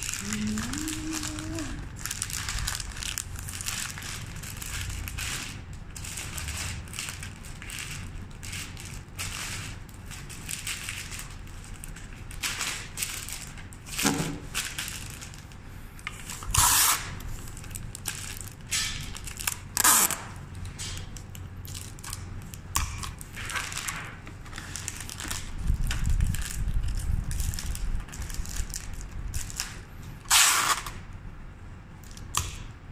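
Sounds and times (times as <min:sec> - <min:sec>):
wrapping paper crinkling and rustling: 0:00.0 - 0:31.0.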